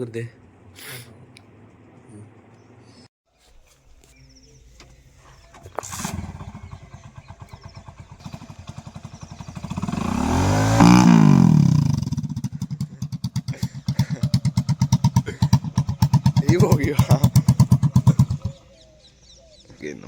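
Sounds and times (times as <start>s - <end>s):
motorcycle engine idling and revving: 0.0s - 3.1s, 4.3s - 19.8s.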